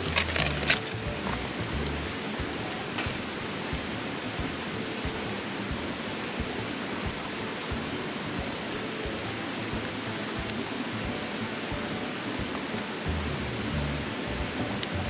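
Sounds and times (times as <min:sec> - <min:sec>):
river flowing: 0:00.0 - 0:15.0.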